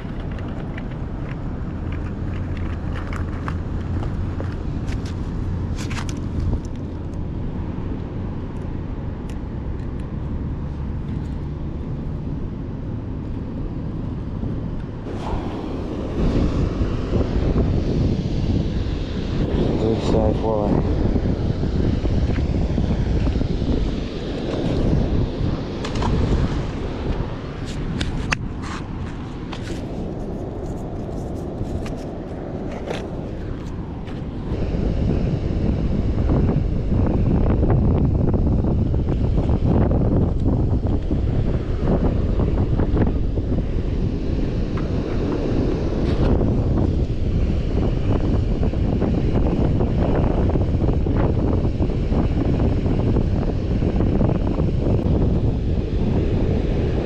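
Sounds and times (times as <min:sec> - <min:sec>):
low outdoor rumble: 0:00.0 - 0:57.0
wind buffeting microphone: 0:00.0 - 0:57.0.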